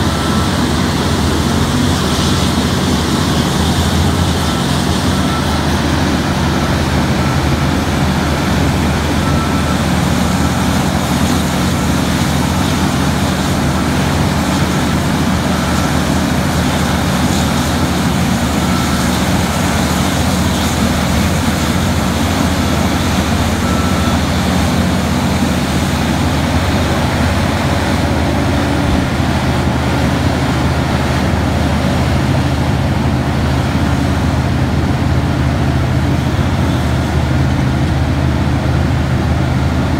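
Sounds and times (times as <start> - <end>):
excavator engines droning: 0.0 - 39.9.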